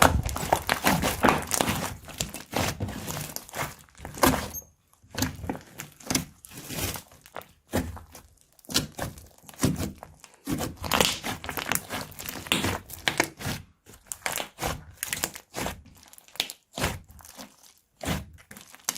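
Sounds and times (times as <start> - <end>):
crunchy slime crackling: 0.0 - 18.9.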